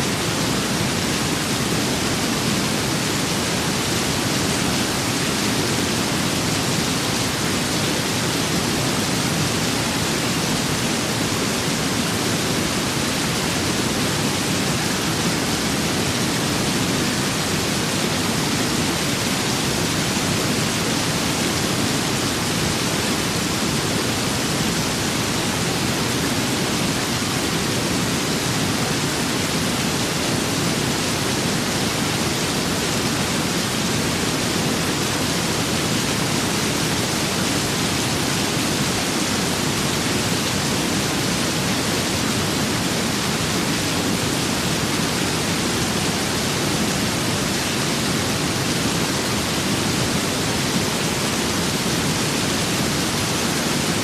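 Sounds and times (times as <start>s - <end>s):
steady rain and wind hiss: 0.0s - 54.0s.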